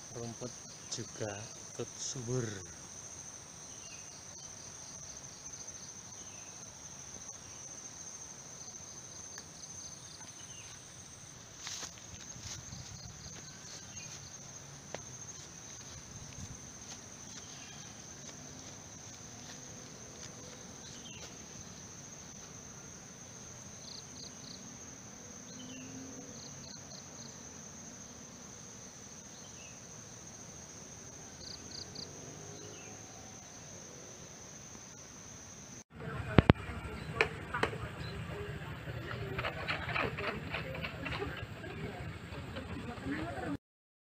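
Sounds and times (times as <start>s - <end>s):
quick insect chirps: 0.0s - 35.8s
insects trilling: 0.0s - 43.6s.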